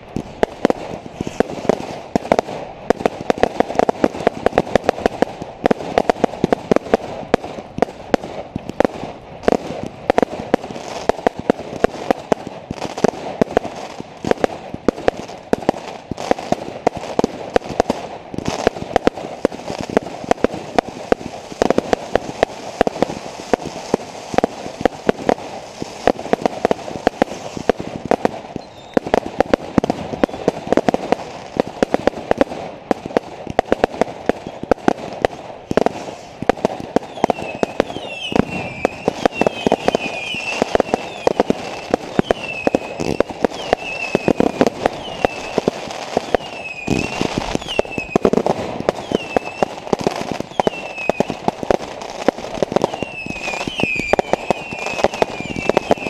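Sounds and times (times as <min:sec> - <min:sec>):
fireworks cracking and banging: 0:00.0 - 0:56.0.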